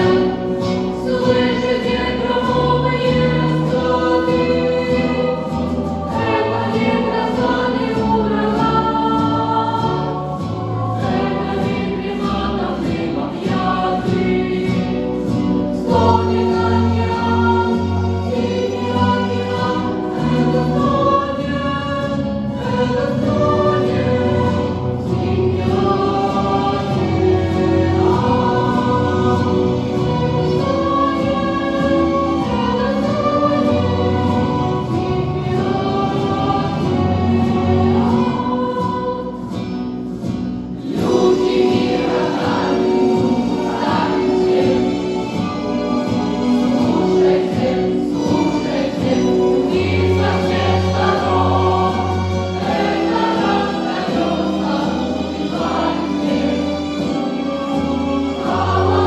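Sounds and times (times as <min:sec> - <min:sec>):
choir singing: 0:00.0 - 0:59.0
musical accompaniment: 0:00.0 - 0:59.0.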